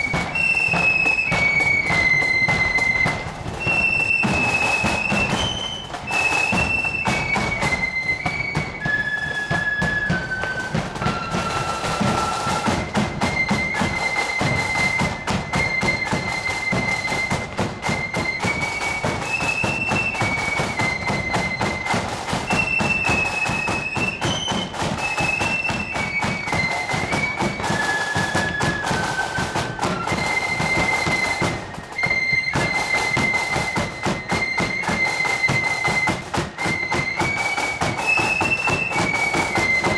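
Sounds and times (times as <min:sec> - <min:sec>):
flutes playing melody: 0:00.0 - 0:39.9.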